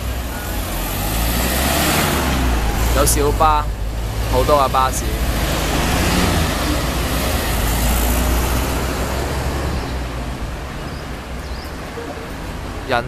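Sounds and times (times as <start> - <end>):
minibus driving past: 0.0 - 13.0.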